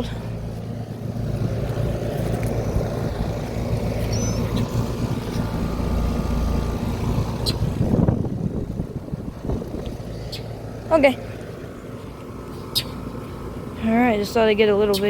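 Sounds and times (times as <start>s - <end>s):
condenser fan air rush: 0.0s - 15.0s
low compressor hum: 0.0s - 15.0s.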